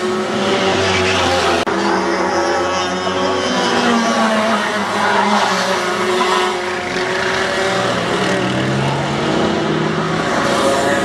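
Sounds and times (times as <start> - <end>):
kart passing close: 0.0 - 11.0
racing kart engines: 0.0 - 11.0.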